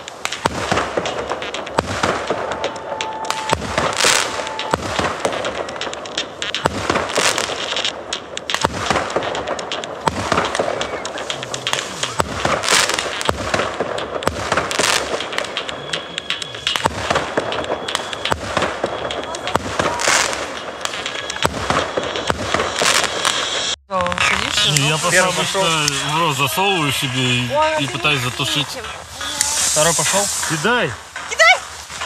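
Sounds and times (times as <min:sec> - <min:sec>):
firecrackers crackling: 0:00.0 - 0:32.0
firework bangs: 0:00.0 - 0:32.0.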